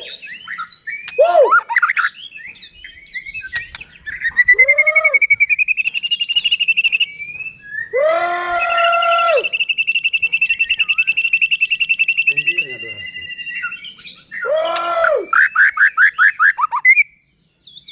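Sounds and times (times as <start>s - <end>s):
bird singing whistled song: 0.0s - 8.0s, 8.6s - 17.9s.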